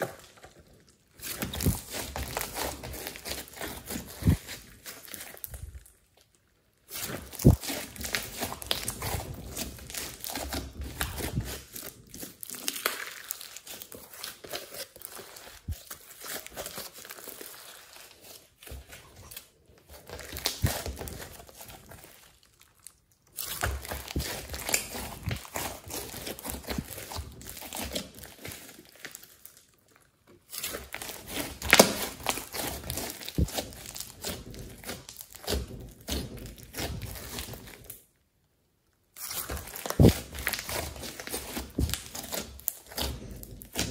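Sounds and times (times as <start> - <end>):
slime being kneaded and squeezed: 0.0 - 38.0, 39.1 - 43.9.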